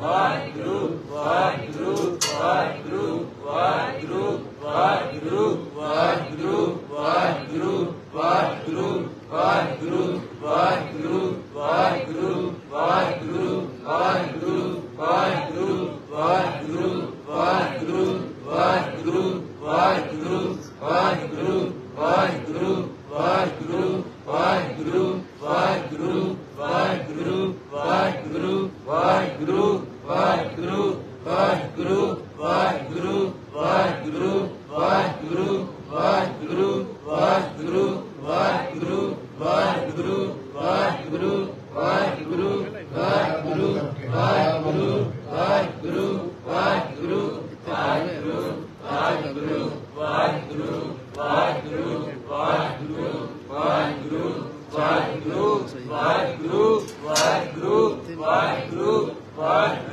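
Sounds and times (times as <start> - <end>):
voices chanting in unison: 0.0 - 59.9.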